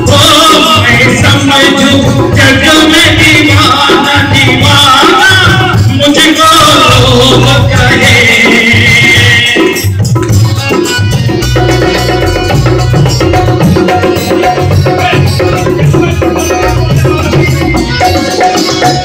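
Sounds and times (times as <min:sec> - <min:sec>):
band playing instrumental music: 0:00.0 - 0:19.0
bright percussion: 0:00.0 - 0:19.0
steady hand drum beat: 0:00.0 - 0:19.0.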